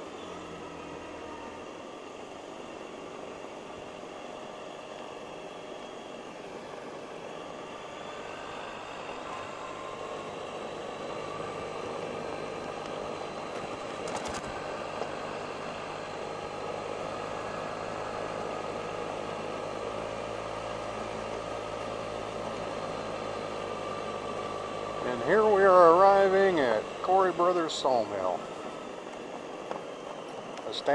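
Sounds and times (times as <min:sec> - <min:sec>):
scooter engine running: 0:00.0 - 0:30.9.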